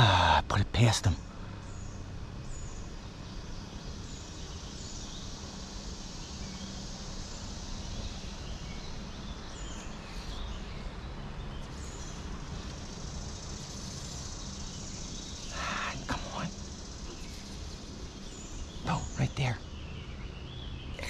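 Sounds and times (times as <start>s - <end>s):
outdoor background noise: 0.0s - 21.0s
high falling bird chirps: 1.3s - 21.0s.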